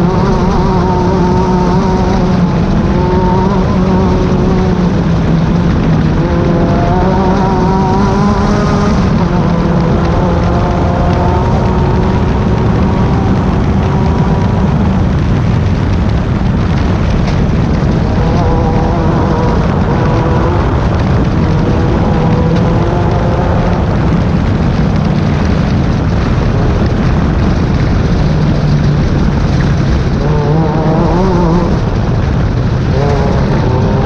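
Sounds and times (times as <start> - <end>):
race car engine running hard: 0.0 - 34.0
rough rushing noise: 0.0 - 34.0.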